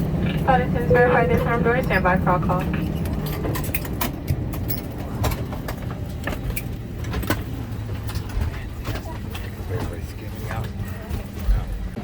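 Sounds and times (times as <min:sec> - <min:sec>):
airliner cabin hum: 0:00.0 - 0:12.0
clicks and knocks of passengers: 0:00.0 - 0:12.0.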